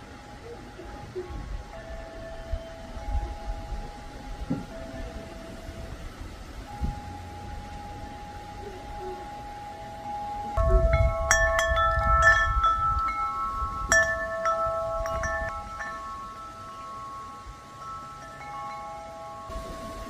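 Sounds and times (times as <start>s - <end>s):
wind chimes ringing: 0.0s - 20.0s.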